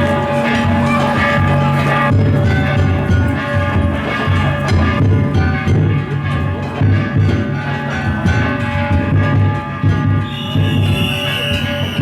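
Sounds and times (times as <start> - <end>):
taiko drum beating: 0.0 - 12.0.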